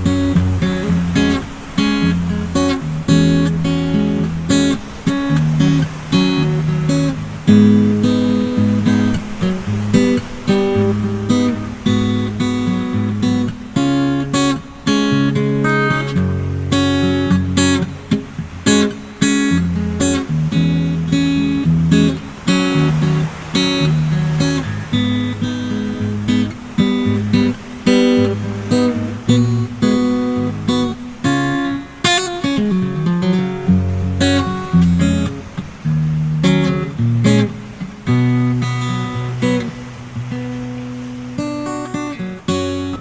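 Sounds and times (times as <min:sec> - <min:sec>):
acoustic guitar music: 0:00.0 - 0:43.0.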